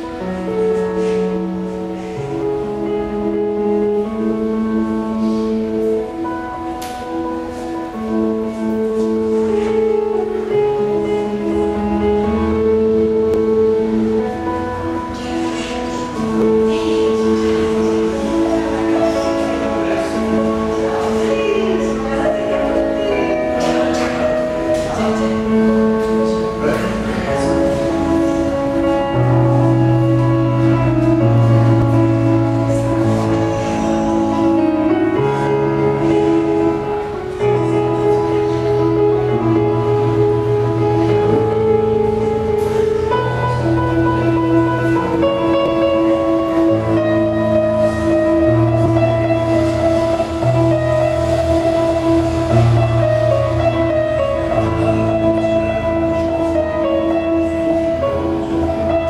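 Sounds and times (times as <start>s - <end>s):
slow instrumental music: 0.0s - 59.0s.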